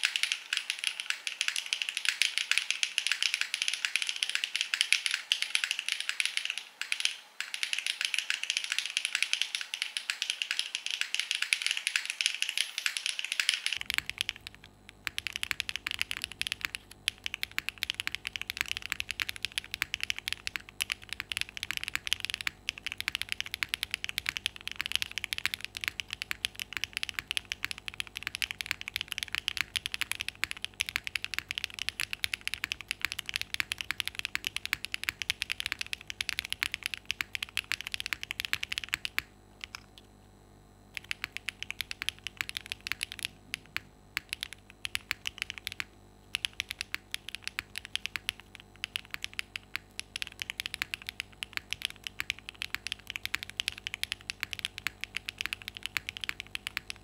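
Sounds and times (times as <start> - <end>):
mechanical keyboard typing: 0.0 - 40.1, 41.0 - 57.0.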